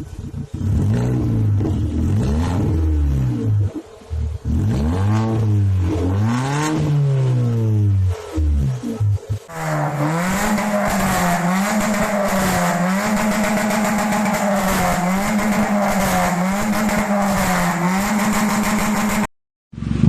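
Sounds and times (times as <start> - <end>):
vehicle exhaust note: 0.0 - 20.0.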